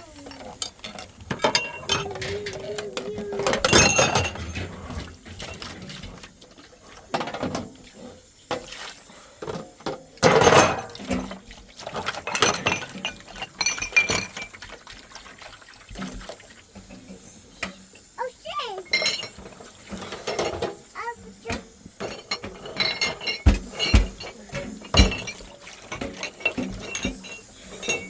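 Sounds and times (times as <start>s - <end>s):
dishes and utensils clattering: 0.2s - 6.2s, 7.0s - 8.7s, 9.4s - 15.0s, 18.8s - 28.0s.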